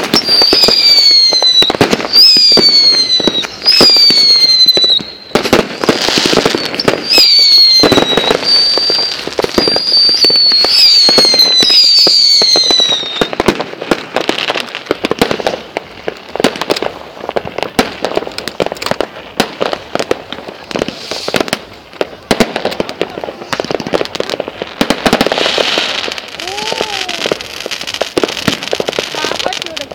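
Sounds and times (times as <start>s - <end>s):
fireworks crackling bangs: 0.0s - 29.9s
fireworks whistling: 0.0s - 29.9s.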